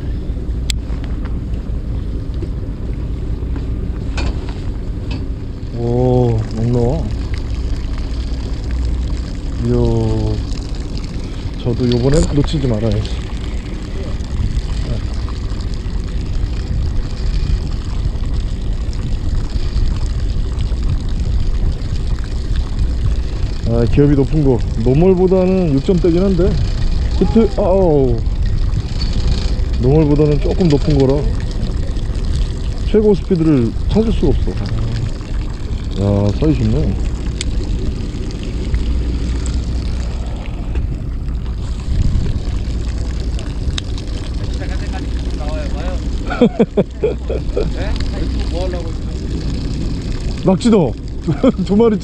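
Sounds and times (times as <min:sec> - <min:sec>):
boat engine hum: 0:00.0 - 0:52.0
wind buffeting microphone: 0:00.0 - 0:52.0.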